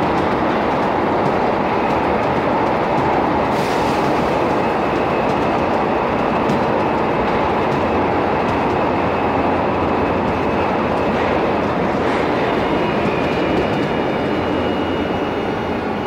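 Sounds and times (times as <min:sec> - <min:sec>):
subway train wheels rumbling: 0:00.0 - 0:16.0.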